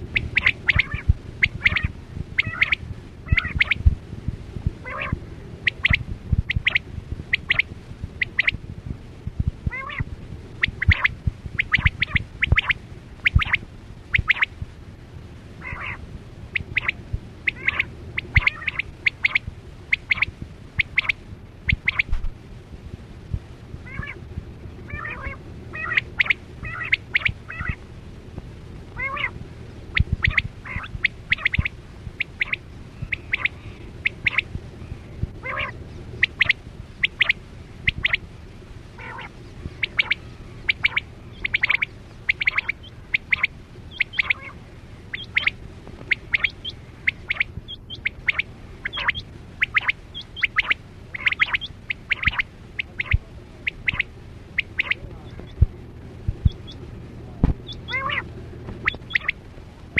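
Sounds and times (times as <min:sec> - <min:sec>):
quail calling: 0:00.0 - 0:03.9, 0:04.8 - 0:08.6, 0:09.7 - 0:14.5, 0:15.6 - 0:22.2, 0:23.8 - 0:24.2, 0:24.9 - 0:27.8, 0:29.0 - 0:38.2, 0:39.0 - 0:55.7, 0:56.4 - 0:59.5
low steady hum: 0:00.0 - 0:59.9.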